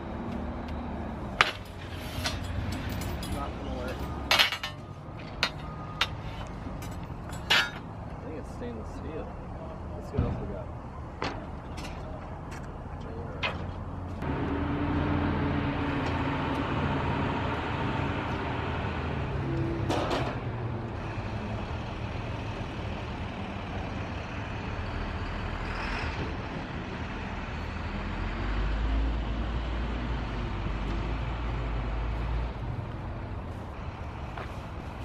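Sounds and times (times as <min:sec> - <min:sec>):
heavy vehicle engine rumbling: 0:00.0 - 0:35.0.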